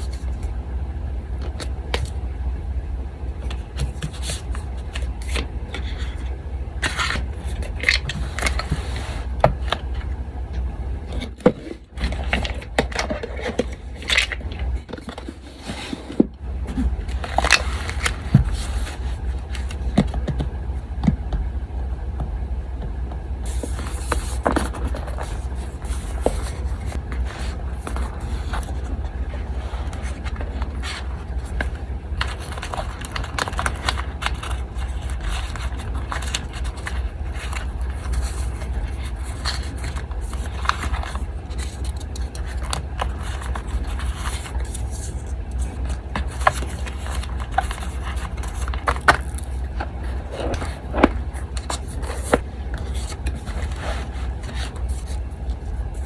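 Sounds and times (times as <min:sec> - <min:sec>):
paper rubbing and scraping: 0:00.0 - 0:00.5, 0:03.6 - 0:09.8, 0:11.5 - 0:20.0, 0:23.4 - 0:56.0
electric fan humming: 0:00.0 - 0:56.0.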